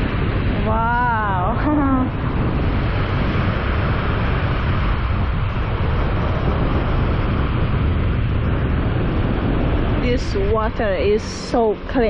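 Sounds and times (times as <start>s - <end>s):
surf washing in: 0.0s - 12.0s
wind rumble on microphone: 0.0s - 12.0s.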